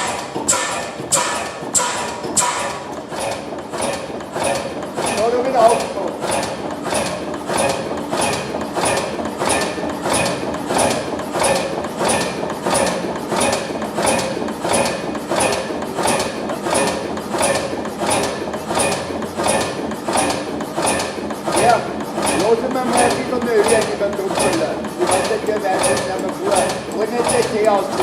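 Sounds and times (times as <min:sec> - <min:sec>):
diesel engine clacking: 0:00.0 - 0:28.0.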